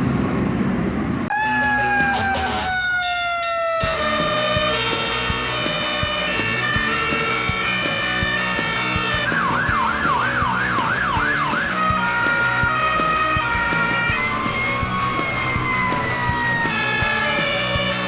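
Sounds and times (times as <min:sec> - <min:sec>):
slowly falling siren tone: 0:01.3 - 0:18.0
two-tone siren: 0:01.3 - 0:18.0
wailing siren: 0:01.3 - 0:18.0.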